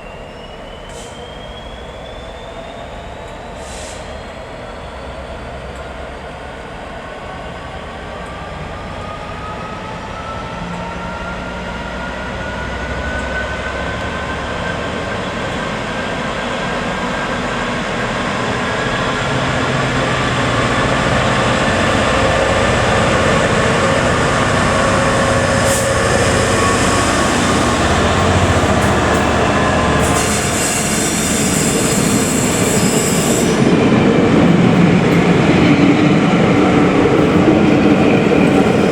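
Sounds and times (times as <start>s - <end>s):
train approaching: 0.0s - 38.9s.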